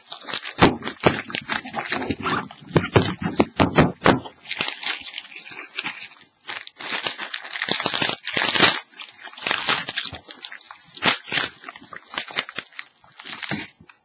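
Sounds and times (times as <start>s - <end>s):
plastic wrapping crinkling and tearing: 0.0s - 14.0s.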